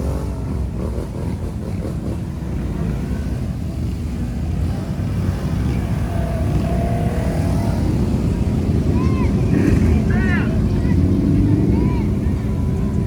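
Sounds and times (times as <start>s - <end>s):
atv engine rumble: 0.0s - 13.0s.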